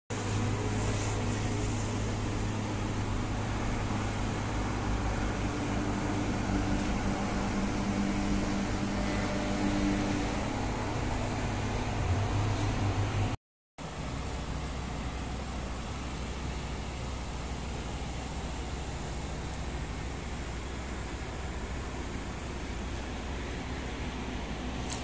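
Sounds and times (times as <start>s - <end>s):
highway traffic drone: 0.1s - 25.0s.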